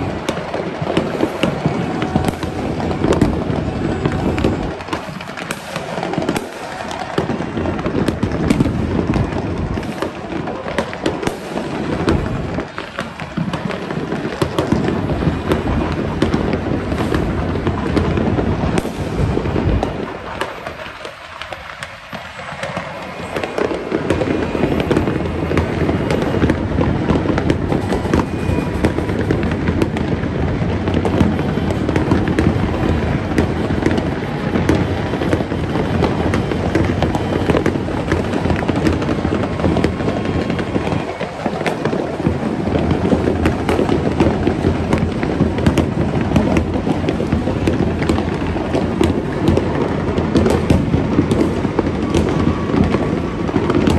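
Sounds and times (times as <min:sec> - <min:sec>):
fireworks and firecrackers banging: 0:00.0 - 0:53.9.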